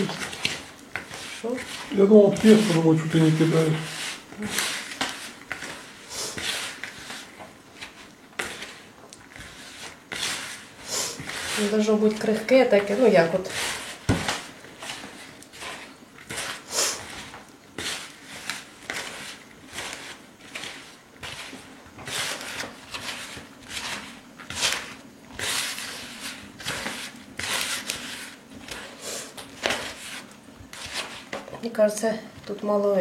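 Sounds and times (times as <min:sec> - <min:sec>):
hands rubbing crumbly dough: 0:00.0 - 0:32.0.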